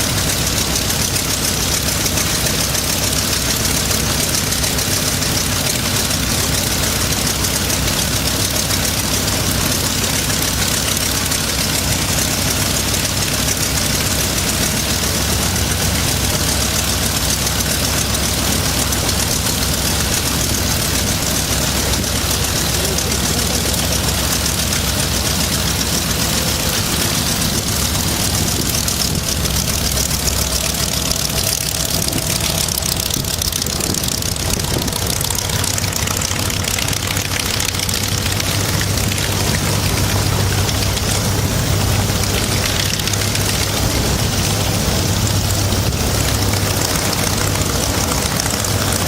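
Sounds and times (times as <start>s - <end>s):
radial aircraft engine idling: 0.0s - 49.0s.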